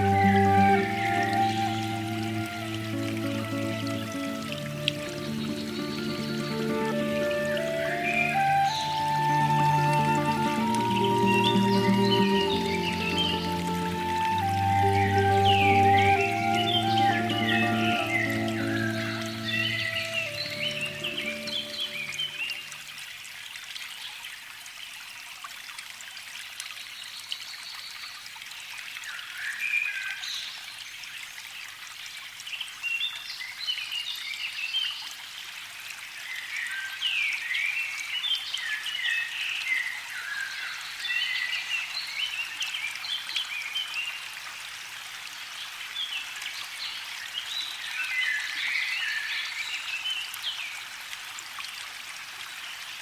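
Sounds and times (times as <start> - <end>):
trickling water: 0.0 - 53.0.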